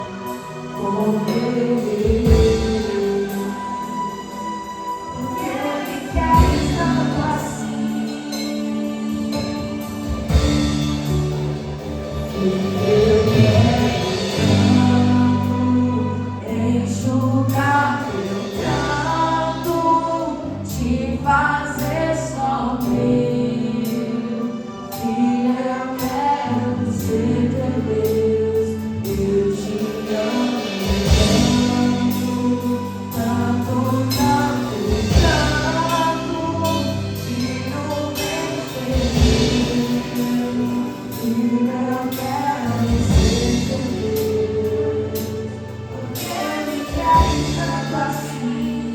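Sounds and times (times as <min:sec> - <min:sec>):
worship band with singers: 0:00.0 - 0:48.9.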